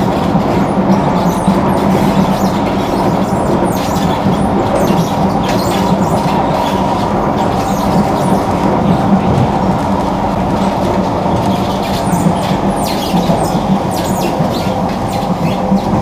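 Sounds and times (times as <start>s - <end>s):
constant hum: 0.0s - 16.0s
train wheels rumbling on rail: 0.0s - 16.0s.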